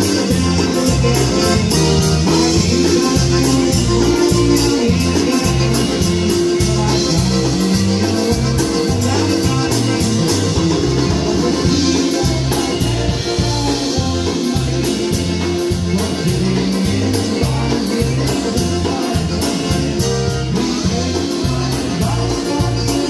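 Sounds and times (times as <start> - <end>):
concertina and accordion: 0.0 - 23.0
drums on cymbals: 0.0 - 23.0
oom-pah electric bass: 0.0 - 23.0.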